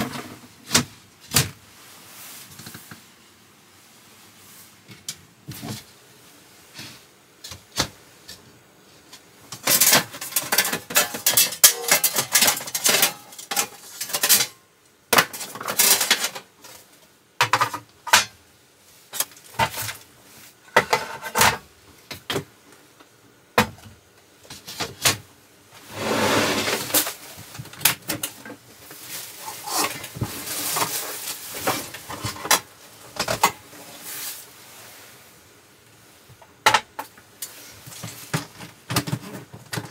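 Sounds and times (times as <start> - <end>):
objects rustling and clattering: 0.0 - 3.2, 4.3 - 35.4, 36.0 - 39.9.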